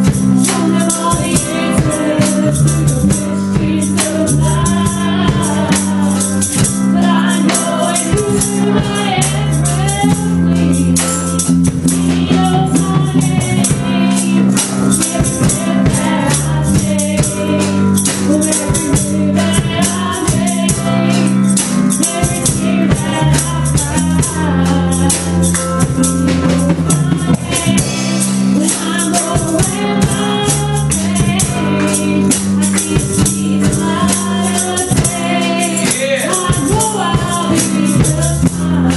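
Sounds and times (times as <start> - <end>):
gospel band playing: 0.0 - 38.9
woman singing lead: 0.0 - 38.9.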